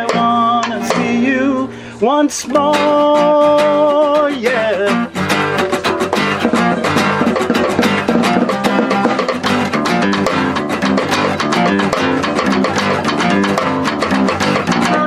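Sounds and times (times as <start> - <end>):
acoustic band playing: 0.0 - 15.0
guitar strummed rapidly: 0.0 - 15.0.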